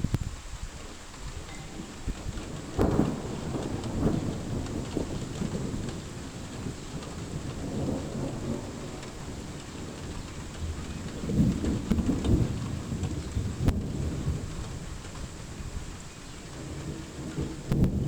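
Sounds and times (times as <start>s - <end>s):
steady rain: 0.0s - 18.0s
thunder rumbling: 0.0s - 18.0s.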